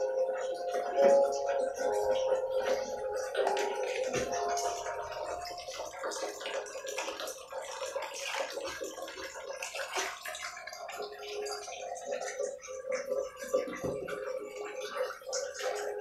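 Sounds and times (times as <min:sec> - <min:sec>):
water splashing in plastic tub: 0:00.0 - 0:16.0.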